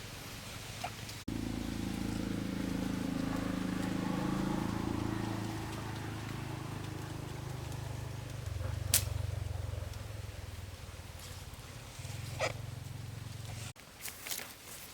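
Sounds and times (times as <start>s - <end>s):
chainsaw engine idling: 1.3s - 13.7s.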